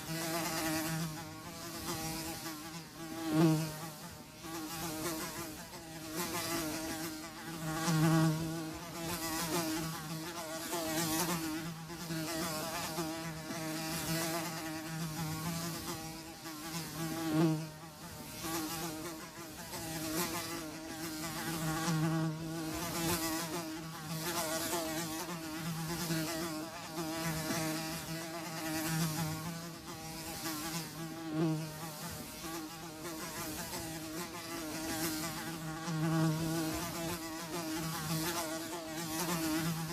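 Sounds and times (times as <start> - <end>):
flies buzzing: 0.0 - 39.9.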